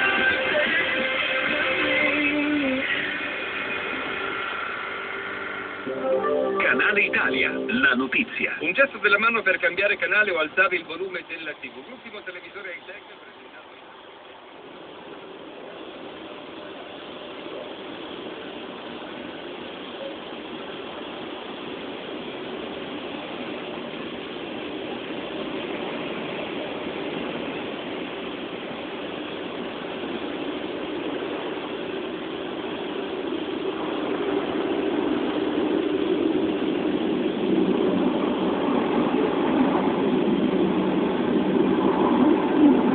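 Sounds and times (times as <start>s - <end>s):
car wash machinery rumbling: 0.0s - 42.9s.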